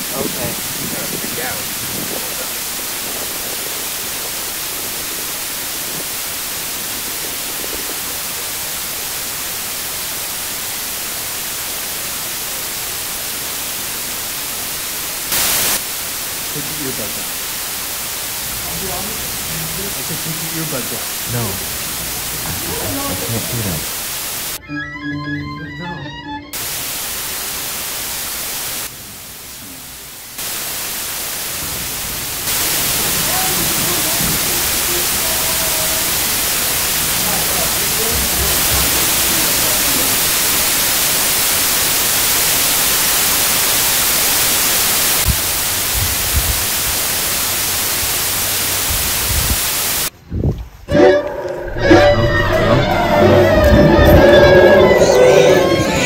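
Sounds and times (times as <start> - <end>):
static hiss: 0.0 - 56.0.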